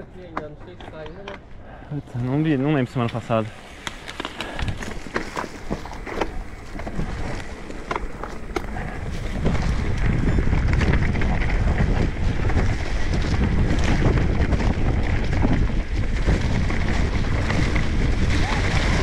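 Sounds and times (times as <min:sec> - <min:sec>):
bike knocks and rattles: 0:00.0 - 0:01.5, 0:02.9 - 0:19.0
wind buffeting microphone: 0:00.9 - 0:19.0.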